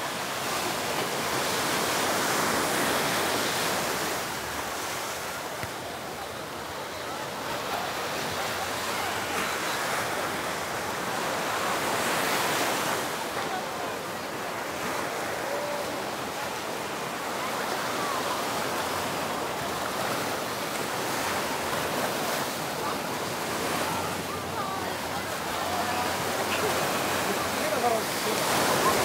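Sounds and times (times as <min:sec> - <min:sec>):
faint crowd voices: 0:00.0 - 0:29.0
surf washing onto beach: 0:00.0 - 0:29.0.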